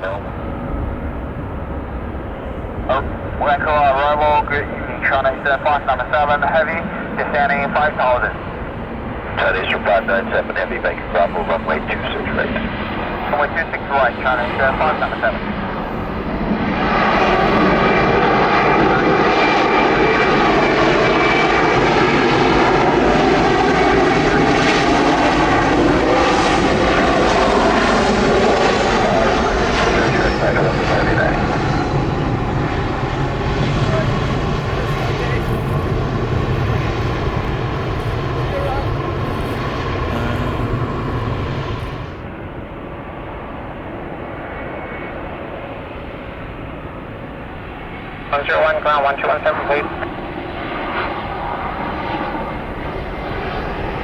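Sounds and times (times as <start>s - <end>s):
aircraft engines passing: 0.0s - 54.0s.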